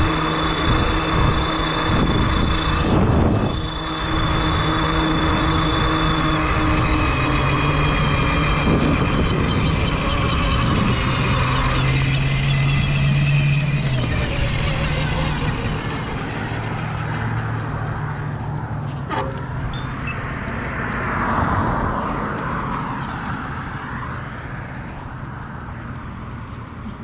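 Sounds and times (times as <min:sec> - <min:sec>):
low drone: 0:00.0 - 0:26.8
wind and tyre noise: 0:00.0 - 0:27.0.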